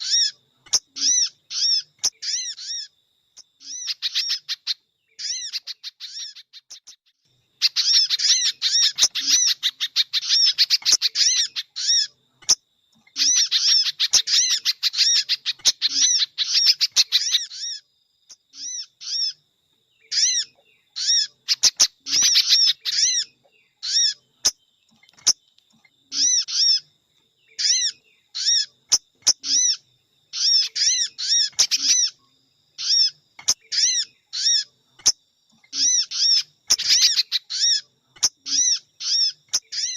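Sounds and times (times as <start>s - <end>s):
high songbird chirping: 0.0s - 39.9s.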